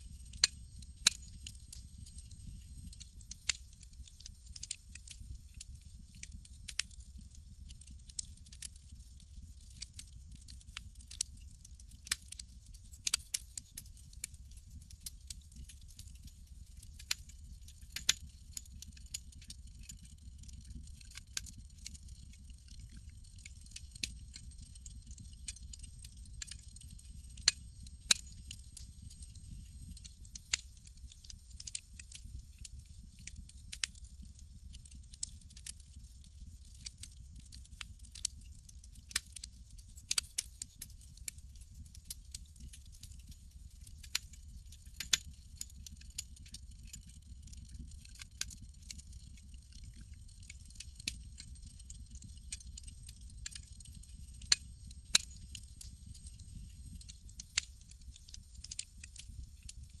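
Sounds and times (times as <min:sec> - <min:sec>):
campfire crackling and popping: 0:00.1 - 0:59.9.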